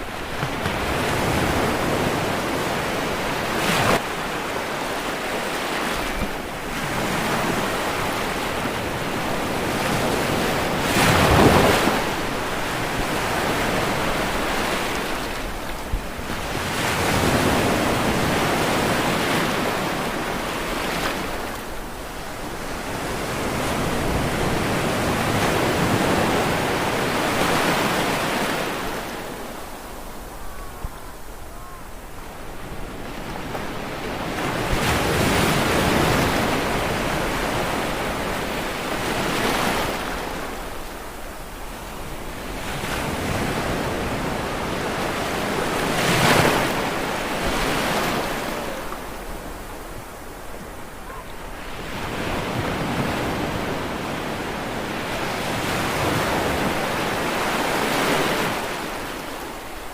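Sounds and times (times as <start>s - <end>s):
ocean waves washing onto shore: 0.0s - 59.9s.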